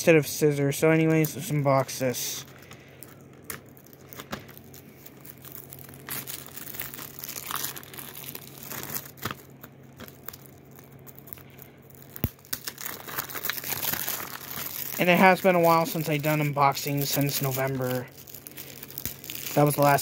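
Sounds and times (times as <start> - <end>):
plastic wrap crinkling: 0.8 - 20.0.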